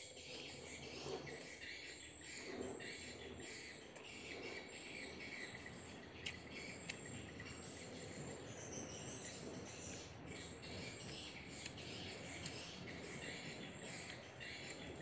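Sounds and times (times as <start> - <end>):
birds chirping: 0.0 - 15.0
insects chirring: 0.1 - 15.0.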